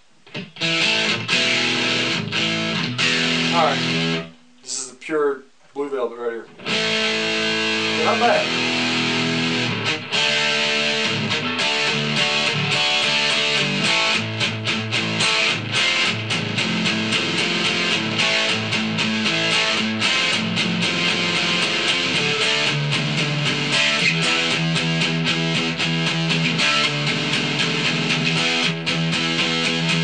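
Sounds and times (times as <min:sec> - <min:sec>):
electric guitar notes and chords: 0:00.2 - 0:04.4, 0:06.5 - 0:30.0.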